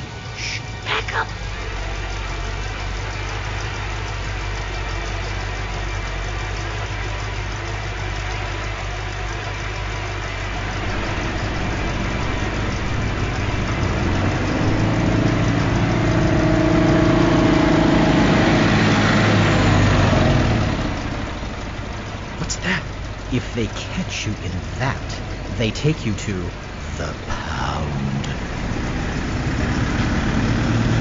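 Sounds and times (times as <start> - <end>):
truck engine humming: 0.0 - 31.0.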